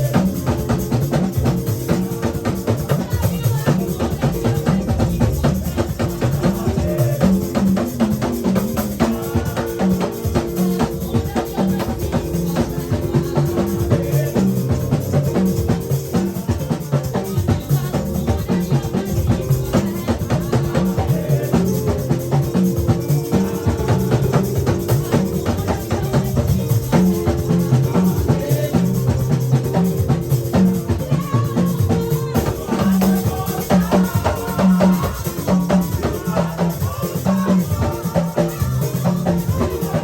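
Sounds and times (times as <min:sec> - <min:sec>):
bass line: 0:00.0 - 0:40.0
drum kit beat: 0:00.0 - 0:40.0.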